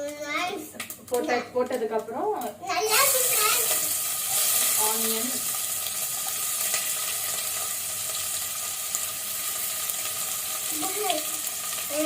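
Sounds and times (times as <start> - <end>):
onions sizzling in hot oil: 2.1 - 12.0.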